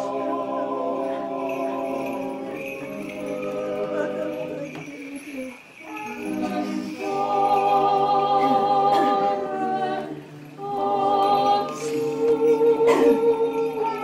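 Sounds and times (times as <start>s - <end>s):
vocal group singing a cappella: 0.0s - 14.0s.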